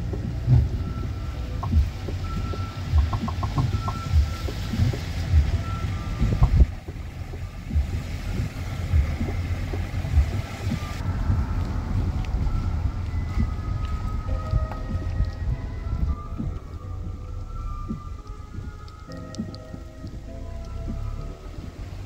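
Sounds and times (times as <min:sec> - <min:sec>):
car road rumble: 0:00.0 - 0:22.0
music with deep bass thumps: 0:00.0 - 0:22.0.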